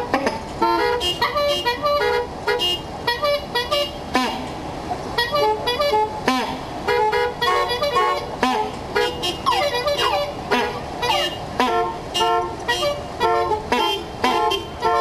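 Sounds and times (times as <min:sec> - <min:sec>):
car horns tooting: 0:00.0 - 0:04.6, 0:05.2 - 0:15.0
sliding horn tones: 0:00.0 - 0:15.0.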